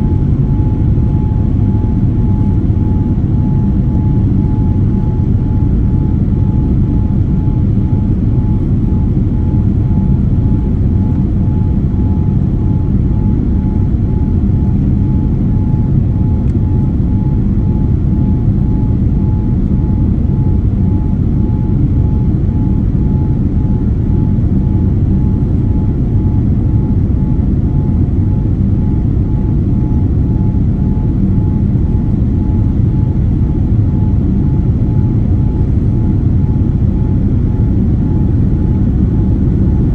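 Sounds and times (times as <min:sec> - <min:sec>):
airliner cabin engine rumble: 0:00.0 - 0:39.9
steady whine: 0:00.0 - 0:39.9.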